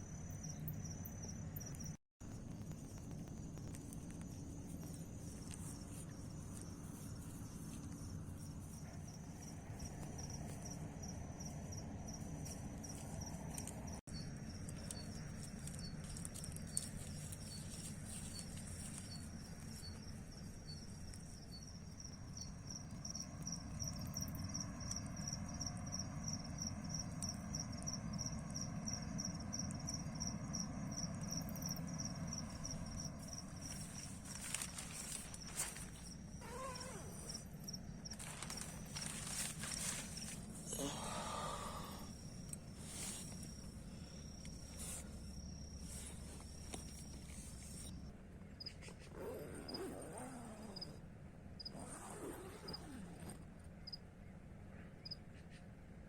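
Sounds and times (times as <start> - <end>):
crickets chirping: 0.0 - 51.0, 51.6 - 54.0, 55.0 - 55.2
lower chirping insect: 0.0 - 51.0, 51.6 - 54.1, 55.0 - 55.3.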